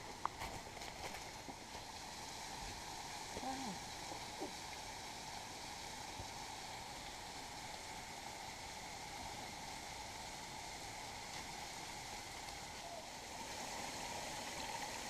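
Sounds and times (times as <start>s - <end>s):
trickling waterfall hiss: 0.0s - 15.0s.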